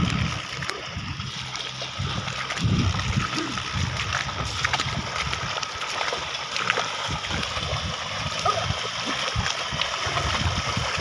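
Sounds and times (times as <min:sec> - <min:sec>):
muddy water splashing: 0:00.0 - 0:11.0.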